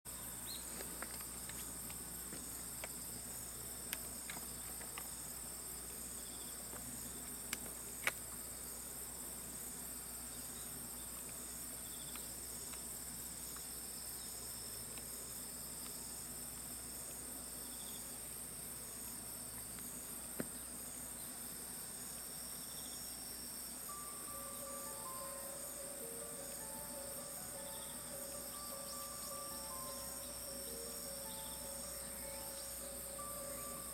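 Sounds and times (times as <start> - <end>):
insects chirring: 0.1 - 33.9.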